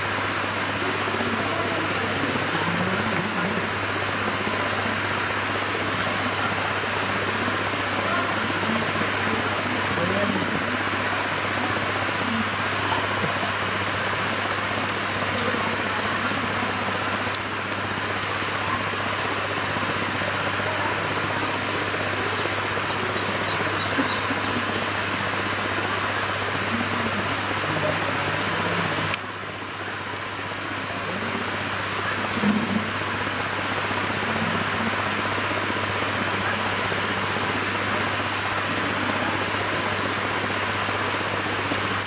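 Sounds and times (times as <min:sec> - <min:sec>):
river running over rocks: 0:00.0 - 0:42.0.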